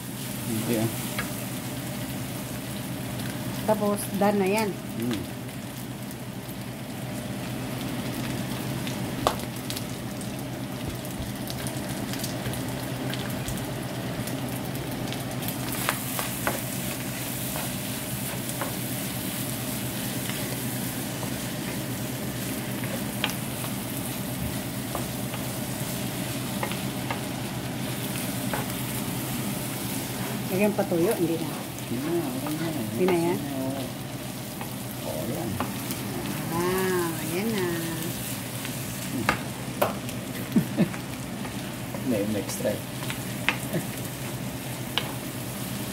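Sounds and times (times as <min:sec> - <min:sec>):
meat sizzling in a frying pan: 0:00.0 - 0:45.9.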